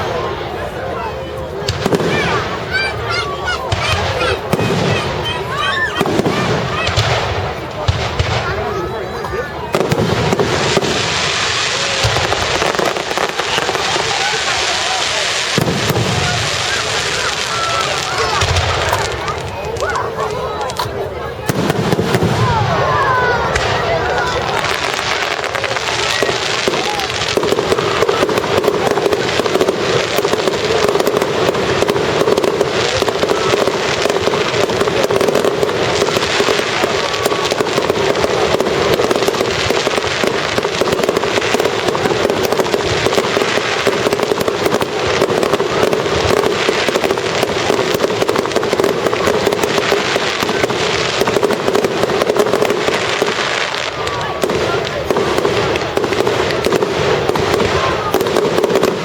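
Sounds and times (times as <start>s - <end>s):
fireworks crackling and popping: 0.0s - 59.0s.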